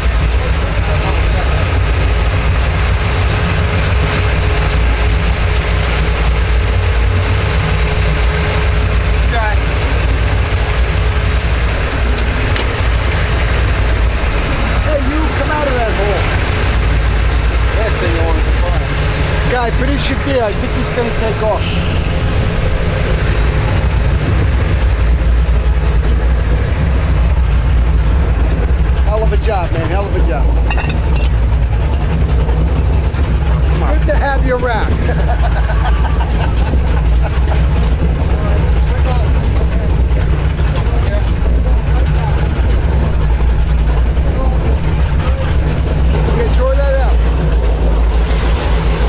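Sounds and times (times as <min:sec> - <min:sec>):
powerboat engine rumbling: 0:00.0 - 0:49.0.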